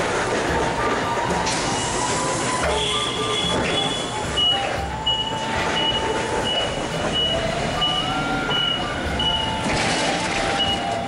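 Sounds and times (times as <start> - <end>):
wavering whining tones: 0.0 - 11.0
forklift backup alarm beeping: 0.6 - 11.0.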